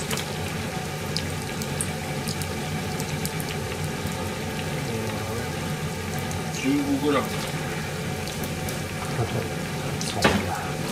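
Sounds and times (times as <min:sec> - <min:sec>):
food deep-frying in oil: 0:00.0 - 0:10.9.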